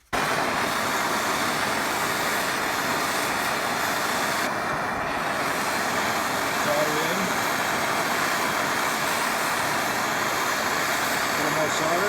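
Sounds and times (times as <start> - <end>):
plumbing torch hissing: 0.0 - 12.0.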